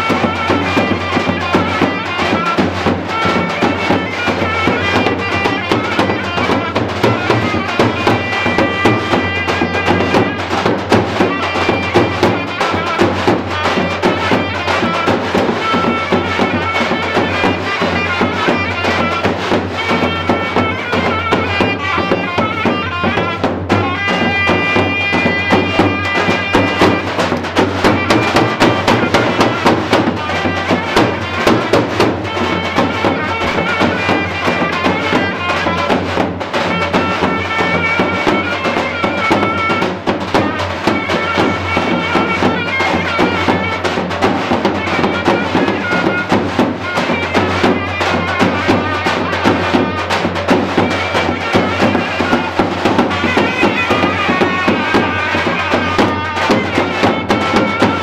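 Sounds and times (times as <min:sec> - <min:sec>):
fast steady drumming: 0:00.0 - 0:58.0.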